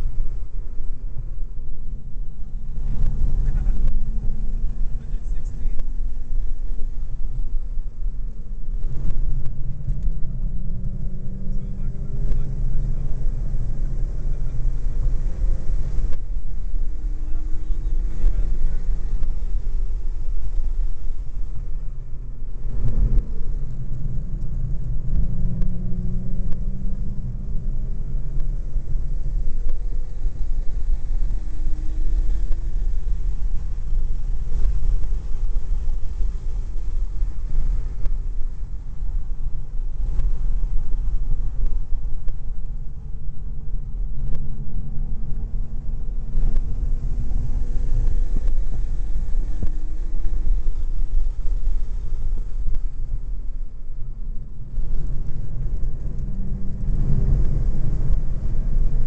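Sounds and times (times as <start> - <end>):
car engine running: 0.0 - 59.0
wind and road noise: 0.0 - 59.0.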